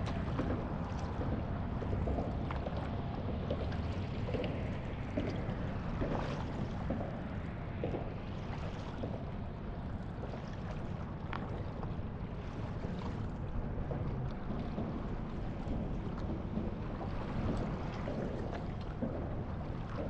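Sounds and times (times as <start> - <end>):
light water splashes: 0.0 - 20.0
low steady rumble: 0.0 - 20.0
small waves lapping and gurgling: 0.0 - 20.0.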